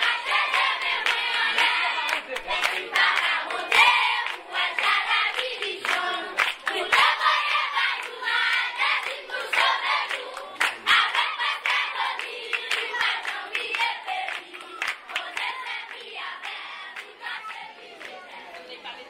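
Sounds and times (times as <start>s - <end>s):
hands clapping: 0.0s - 18.6s
group of people singing: 0.0s - 19.0s.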